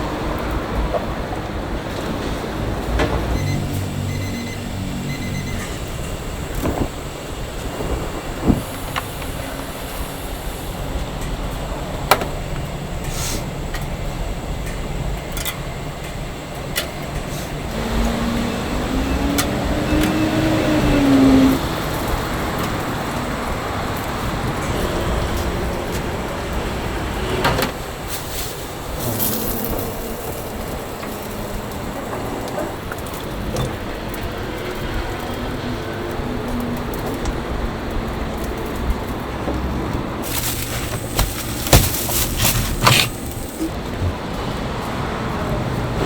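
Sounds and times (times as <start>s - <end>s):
street background noise: 0.0s - 46.0s.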